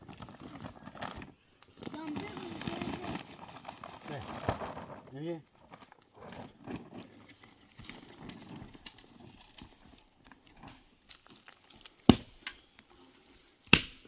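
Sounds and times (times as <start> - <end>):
faint clicks and rustling: 0.0 - 13.6.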